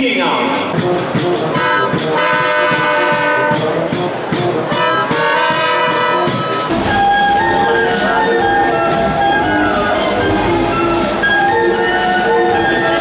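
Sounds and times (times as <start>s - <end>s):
brass band playing: 0.6s - 13.0s.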